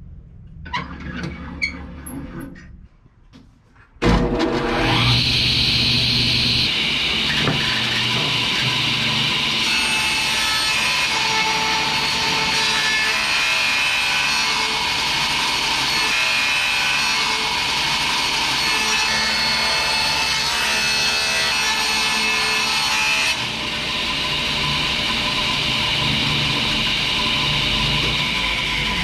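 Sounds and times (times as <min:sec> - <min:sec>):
table saw cutting plywood: 0:04.0 - 0:29.0
table saw running: 0:04.0 - 0:29.0.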